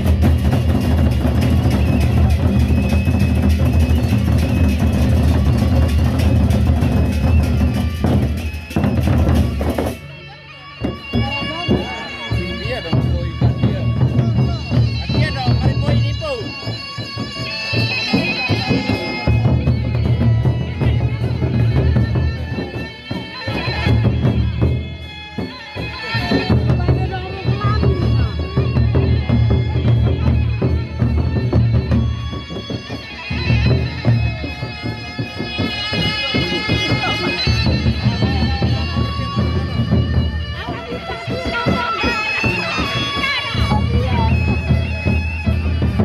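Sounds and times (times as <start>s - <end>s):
barrel drums beaten fast: 0.0s - 10.0s, 10.8s - 46.0s.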